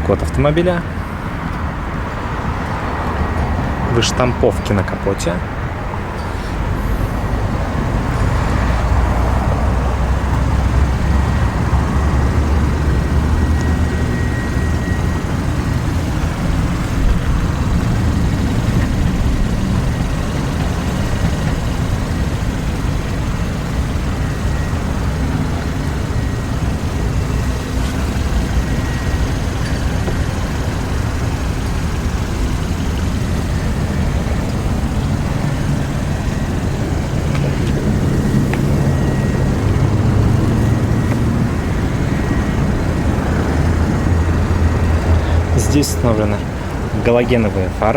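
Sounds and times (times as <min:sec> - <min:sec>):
road traffic rumble: 0:00.0 - 0:47.9.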